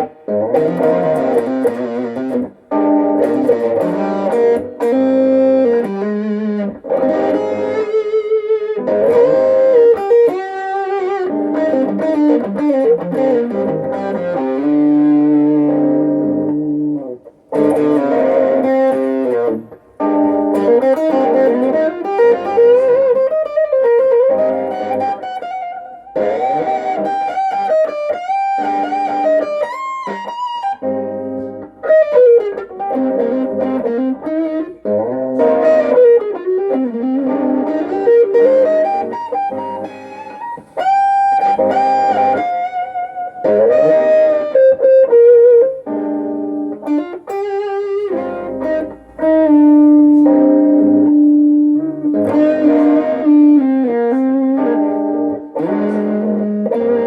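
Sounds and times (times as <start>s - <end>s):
electric guitar lead phrases: 0.0s - 57.0s.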